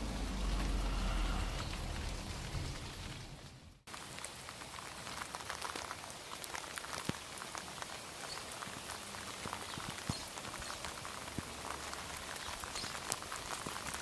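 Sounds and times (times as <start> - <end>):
raindrops ticking close by: 0.0 - 14.0
steady rain: 0.0 - 14.0.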